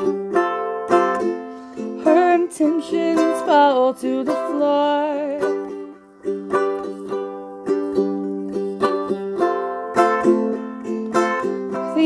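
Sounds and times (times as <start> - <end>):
strummed acoustic string instrument: 0.0 - 12.0.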